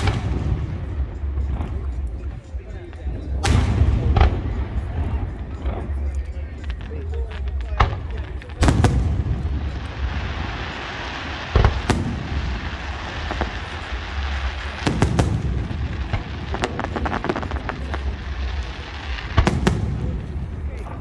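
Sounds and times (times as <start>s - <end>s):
firework booms: 0.0s - 2.4s, 3.0s - 6.0s, 6.8s - 21.0s
crackling firework pops: 0.0s - 21.0s.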